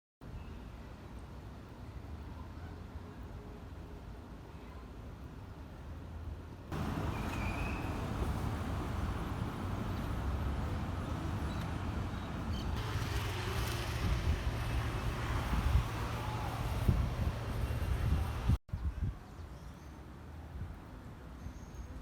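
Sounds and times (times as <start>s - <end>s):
city traffic rumble: 0.6s - 19.2s.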